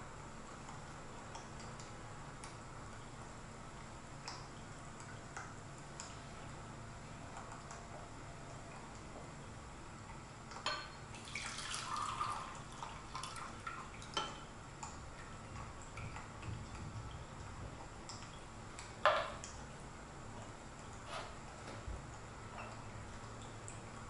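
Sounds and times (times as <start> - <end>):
trickling liquid: 0.1 - 24.0.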